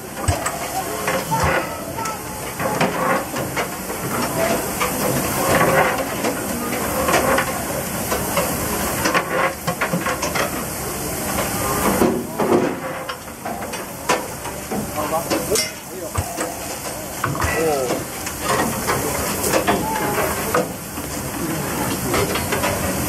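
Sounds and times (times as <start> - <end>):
steam hissing: 0.0 - 23.0.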